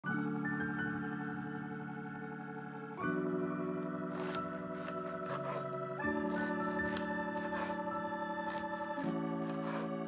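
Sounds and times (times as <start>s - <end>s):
background music of held chords: 0.0s - 10.0s.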